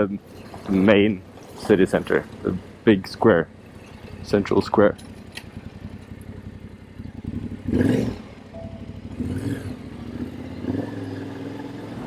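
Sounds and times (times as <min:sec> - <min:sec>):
motorcycle engine at low speed: 0:00.0 - 0:12.0
traffic: 0:00.0 - 0:12.0.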